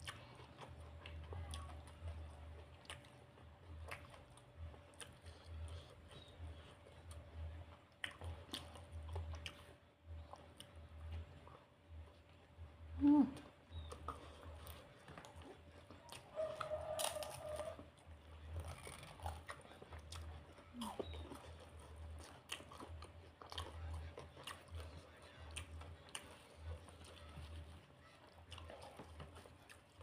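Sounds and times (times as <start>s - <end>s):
chewing and crunching food: 0.0s - 30.0s.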